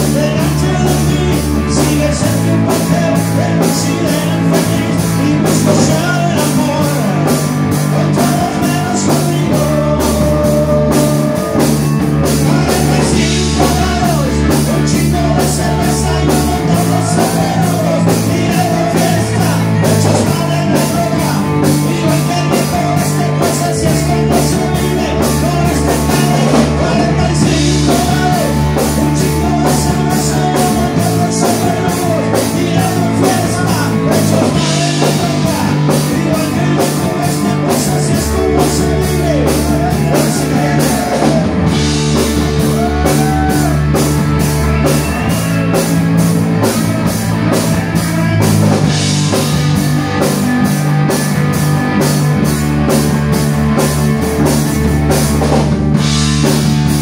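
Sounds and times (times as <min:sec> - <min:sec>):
man singing into a microphone: 0:00.0 - 0:49.6
live rock band playing: 0:00.0 - 0:57.0.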